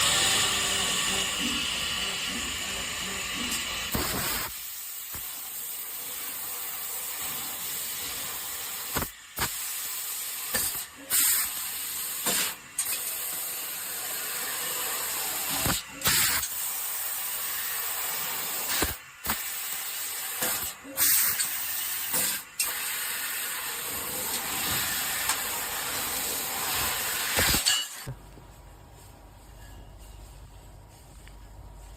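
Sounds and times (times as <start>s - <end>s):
laser cutter hissing: 0.0s - 28.1s
sharp gas bursts: 0.0s - 28.1s.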